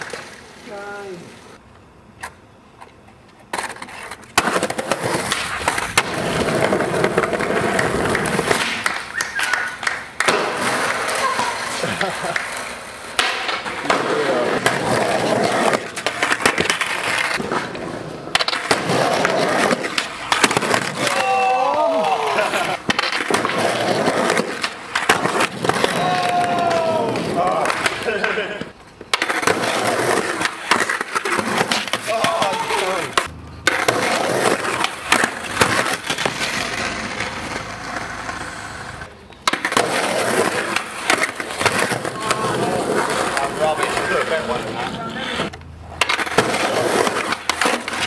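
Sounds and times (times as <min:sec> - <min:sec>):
skateboard wheels rolling on concrete: 0:00.0 - 0:48.0
skateboard clacks and knocks: 0:03.4 - 0:44.3, 0:45.4 - 0:48.0.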